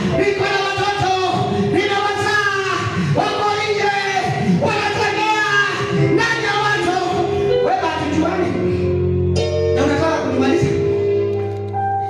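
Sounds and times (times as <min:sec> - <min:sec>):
person singing gospel: 0:00.0 - 0:11.0
held keyboard chords: 0:00.0 - 0:12.0.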